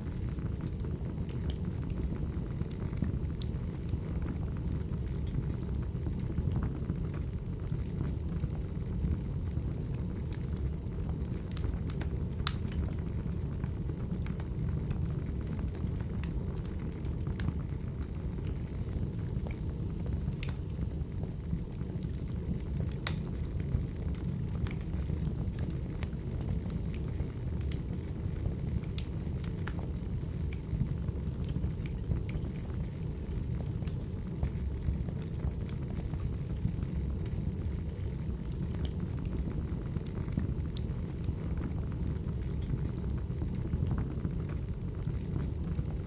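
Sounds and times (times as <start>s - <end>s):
wood fire burning: 0.0s - 46.0s.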